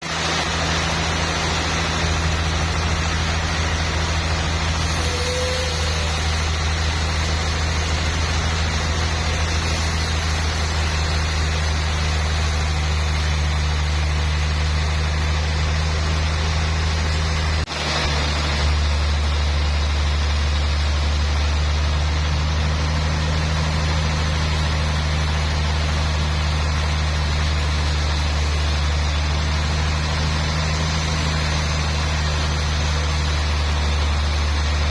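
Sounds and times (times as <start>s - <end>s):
sawmill engine droning: 0.0s - 34.9s.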